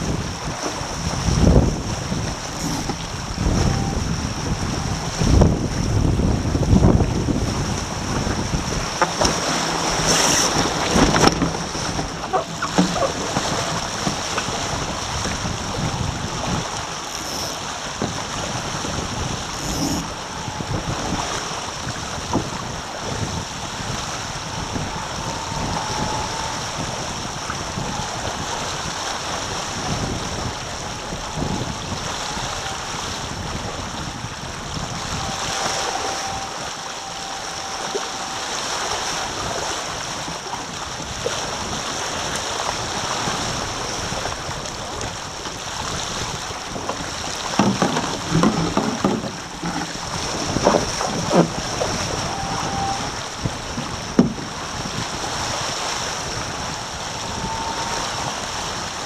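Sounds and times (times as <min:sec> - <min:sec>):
water rushing past hulls: 0:00.0 - 0:59.0
wind buffeting microphone: 0:00.0 - 0:59.0.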